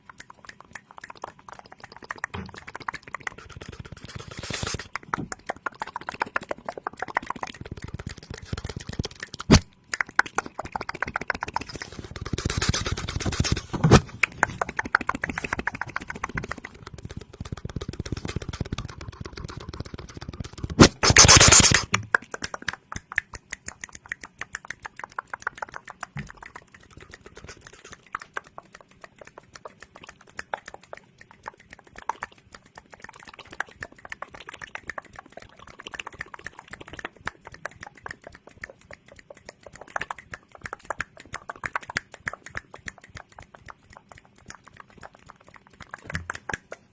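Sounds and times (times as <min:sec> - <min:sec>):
wet mouth clicks and pops: 0:00.0 - 0:46.9.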